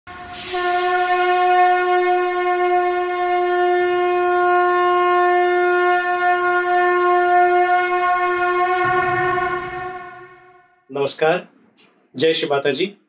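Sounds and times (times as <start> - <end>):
conch shell blown: 0.1 - 10.9.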